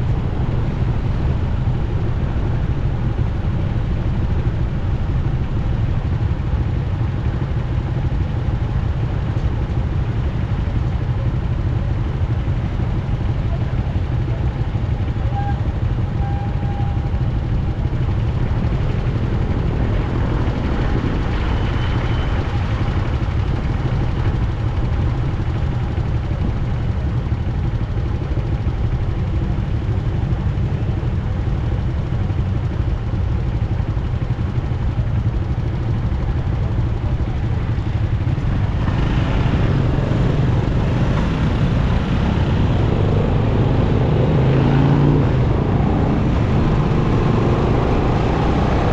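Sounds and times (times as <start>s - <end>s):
motorcycle engine: 0.0s - 48.9s
road noise: 0.0s - 48.9s.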